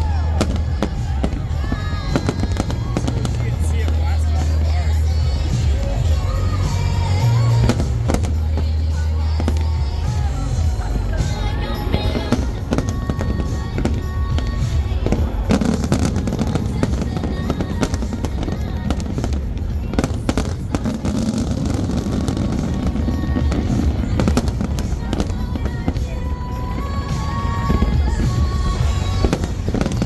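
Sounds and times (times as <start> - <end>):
fireworks cracking and banging: 0.0 - 30.0
music playing: 0.0 - 30.0.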